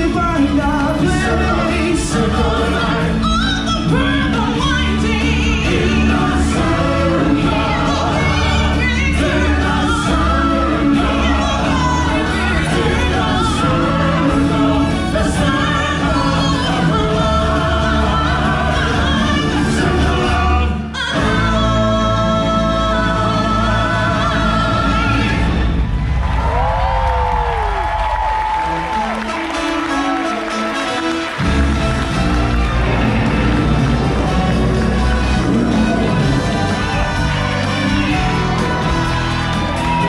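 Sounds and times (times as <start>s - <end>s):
choir singing with band: 0.0s - 26.6s, 31.4s - 40.0s.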